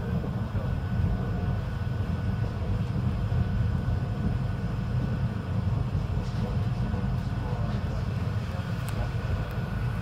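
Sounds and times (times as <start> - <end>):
diesel railcar rumble: 0.0 - 10.0.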